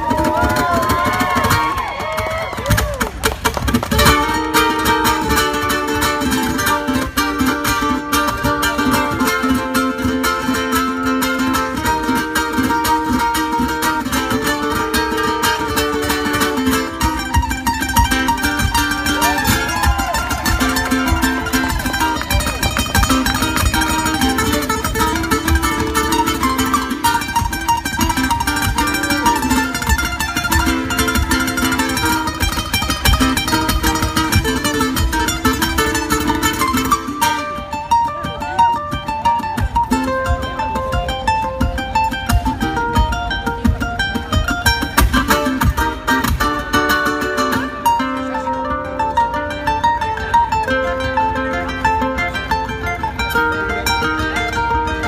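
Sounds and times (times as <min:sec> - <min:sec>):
ukuleles playing instrumental tune: 0:00.0 - 0:55.0.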